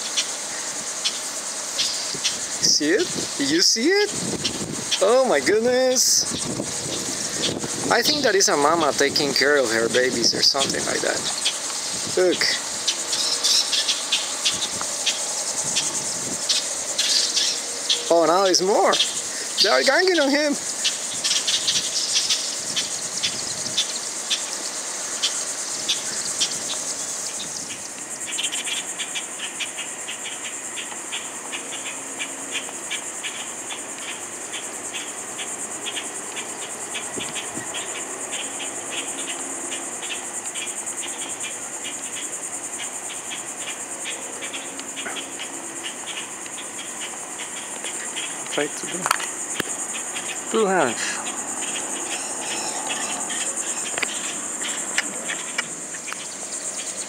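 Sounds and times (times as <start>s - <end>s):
insect high-pitched buzz: 0.0s - 57.0s
insect rapid pulsed chirp: 0.0s - 57.0s.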